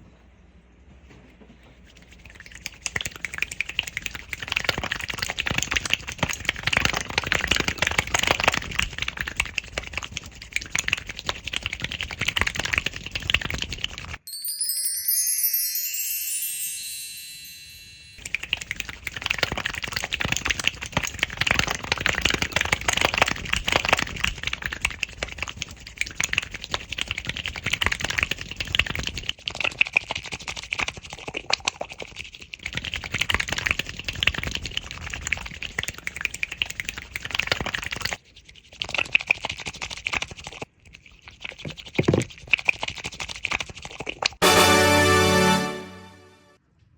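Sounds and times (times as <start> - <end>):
wet squelching clicks: 2.0 - 14.2, 18.2 - 44.3.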